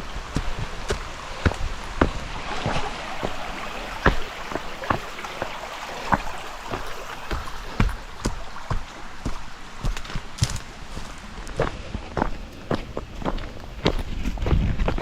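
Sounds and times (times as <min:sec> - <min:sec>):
creek rushing: 0:00.0 - 0:14.3
hiker footsteps: 0:00.0 - 0:15.0.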